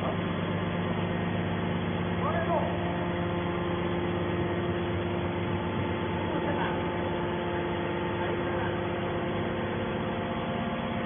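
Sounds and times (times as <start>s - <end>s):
hydraulic motor and pump humming: 0.0s - 11.0s.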